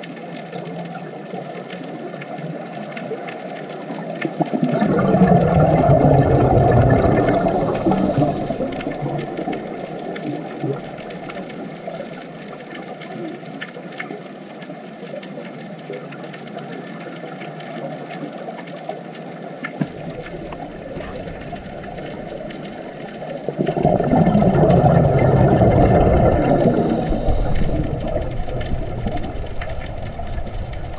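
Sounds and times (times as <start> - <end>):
underwater rushing water: 0.0 - 30.9.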